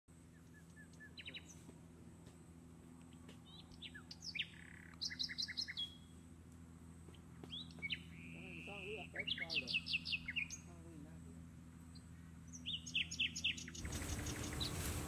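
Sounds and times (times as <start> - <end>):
birds chirping: 0.2 - 1.7, 2.9 - 6.3, 7.0 - 15.0.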